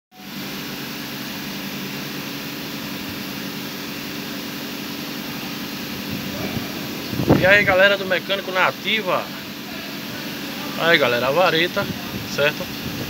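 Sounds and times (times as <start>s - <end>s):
machine drone: 0.5s - 13.0s.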